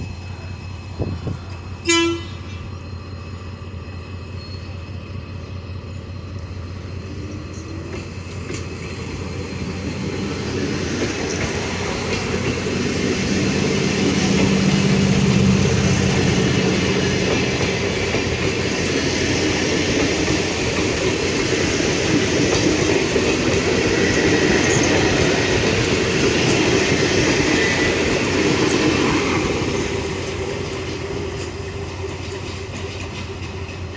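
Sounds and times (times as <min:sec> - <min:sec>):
train wheels clattering on rails: 0:04.1 - 0:33.9.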